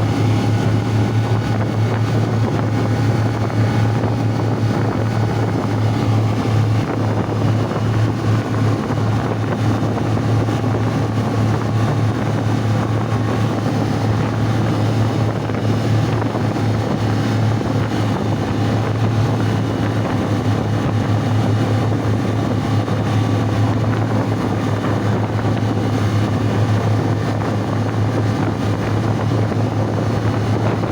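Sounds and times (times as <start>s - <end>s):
ship engine droning: 0.0s - 30.9s
wind rushing on microphone: 0.0s - 30.9s.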